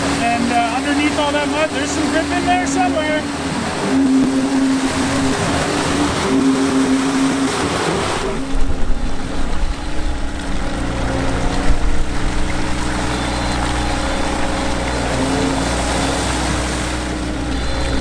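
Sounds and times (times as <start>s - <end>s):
diesel engine under load: 0.0s - 18.0s
tires churning through mud: 0.0s - 18.0s.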